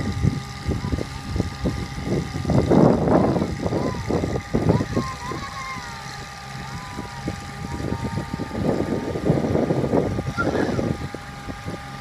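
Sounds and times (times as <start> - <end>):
truck engine whining and humming: 0.0 - 12.0.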